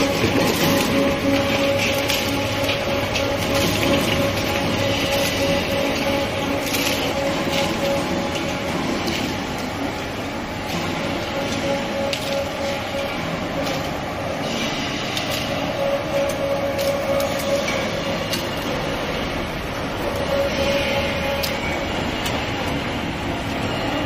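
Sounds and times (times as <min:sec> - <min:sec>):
shredder motor hum and whine: 0:00.0 - 0:24.0.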